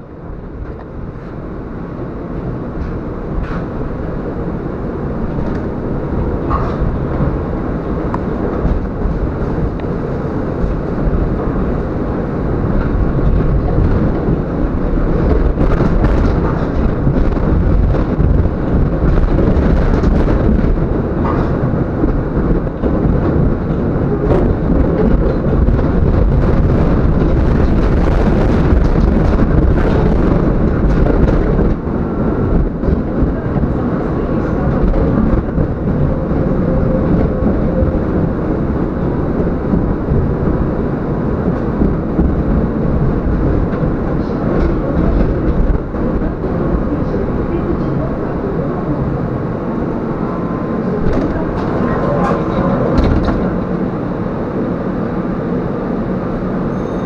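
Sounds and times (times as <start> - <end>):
tram rumbling on rails: 0.0 - 57.0.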